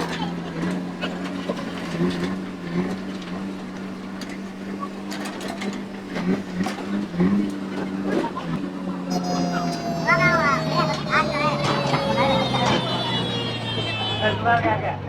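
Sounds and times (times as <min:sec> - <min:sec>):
digger engine running: 0:00.0 - 0:15.0.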